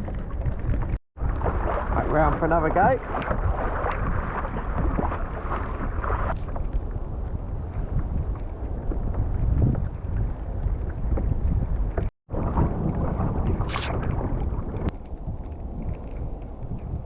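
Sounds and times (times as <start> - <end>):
water sounds: 0.0 - 17.0
wind buffeting microphone: 0.0 - 17.0.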